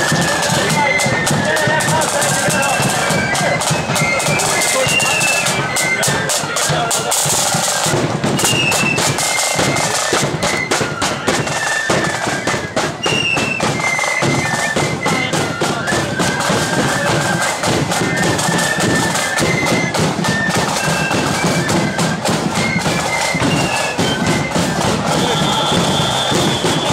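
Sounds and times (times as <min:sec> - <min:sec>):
flutes playing shrill tune: 0:00.0 - 0:26.9
side-drum rolls: 0:00.0 - 0:26.9.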